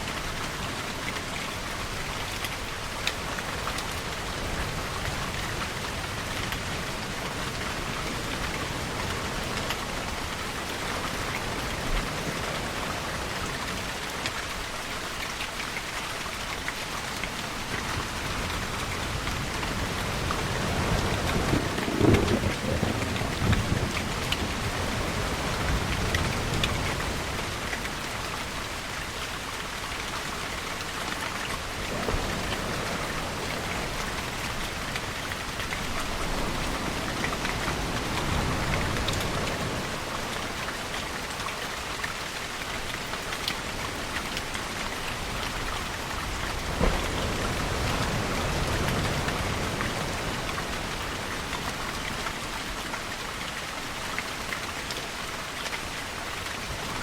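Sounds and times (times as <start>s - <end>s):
deep wash of water: 0.0s - 57.0s
steady rainfall: 0.0s - 57.0s.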